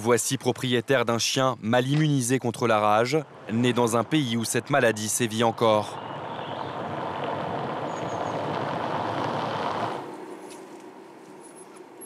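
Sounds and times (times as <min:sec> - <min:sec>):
car driving on road: 0:01.8 - 0:12.0.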